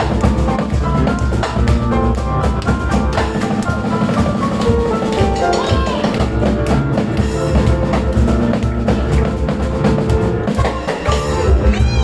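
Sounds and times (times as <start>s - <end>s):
drum hits: 0.0s - 12.0s
piano: 0.0s - 12.0s.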